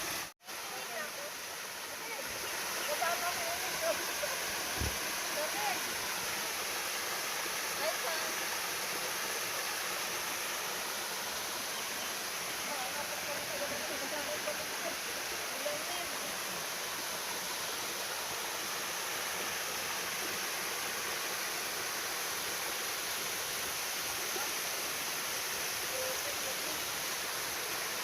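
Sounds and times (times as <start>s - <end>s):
flowing water rushing: 0.0s - 28.0s.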